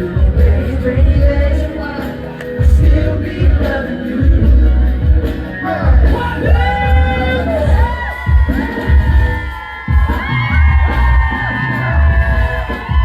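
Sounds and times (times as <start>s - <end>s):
live pop music with heavy bass: 0.0s - 13.0s.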